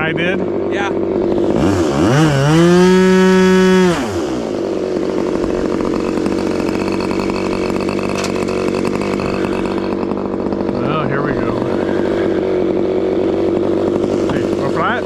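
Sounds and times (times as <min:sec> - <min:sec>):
model airplane engine revving: 0:00.0 - 0:15.0.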